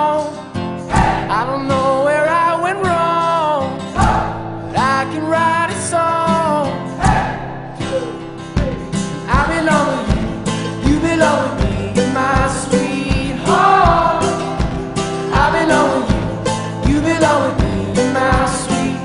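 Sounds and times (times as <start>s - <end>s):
person singing over guitar: 0.0s - 19.0s.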